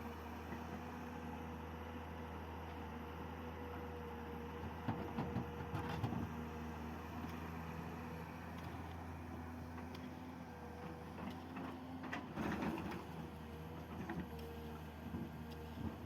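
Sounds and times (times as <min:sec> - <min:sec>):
diesel excavator engine running: 0:00.0 - 0:16.0.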